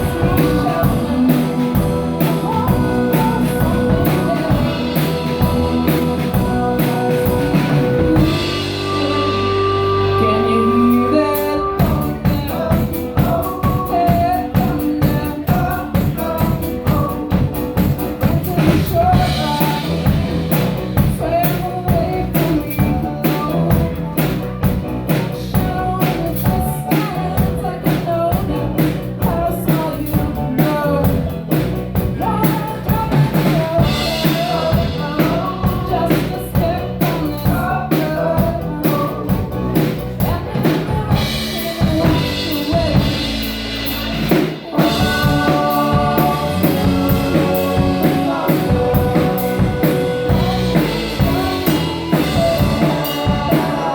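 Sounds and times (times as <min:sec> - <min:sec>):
band playing a song: 0:00.0 - 0:53.9
drum kit beat: 0:00.0 - 0:53.9
sung melody: 0:00.0 - 0:53.9.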